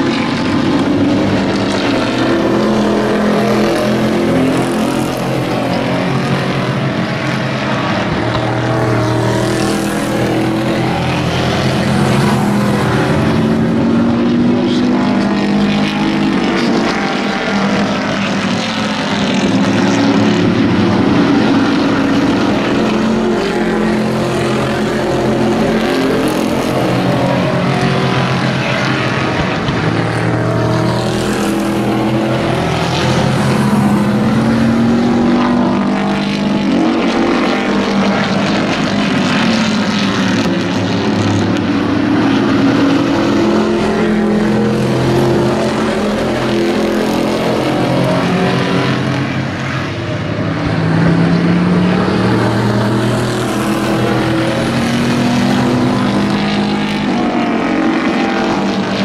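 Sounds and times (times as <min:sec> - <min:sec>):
racing truck engines: 0:00.0 - 0:59.0.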